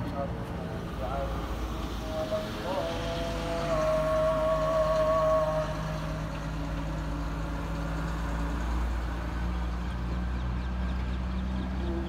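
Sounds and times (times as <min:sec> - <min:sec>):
cars passing on road: 0:00.0 - 0:12.0
truck engine rumble: 0:00.0 - 0:12.0.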